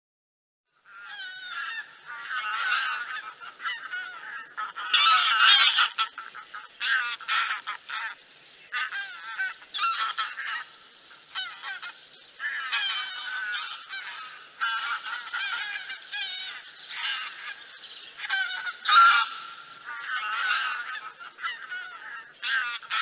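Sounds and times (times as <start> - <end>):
geese honking: 0.8 - 23.0.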